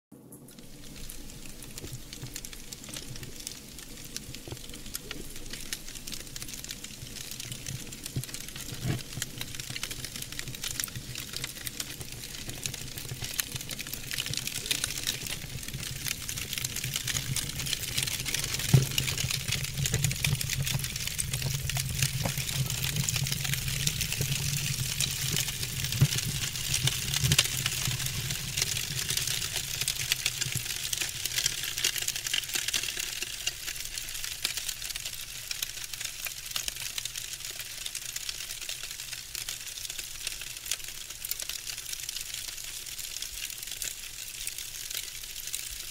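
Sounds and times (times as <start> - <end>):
fire crackling: 0.3 - 45.9.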